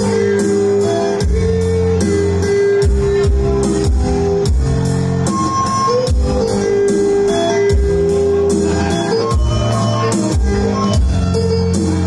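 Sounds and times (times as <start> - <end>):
bass: 0.0 - 12.0
guitar: 0.0 - 12.0
drum beat: 1.2 - 12.0.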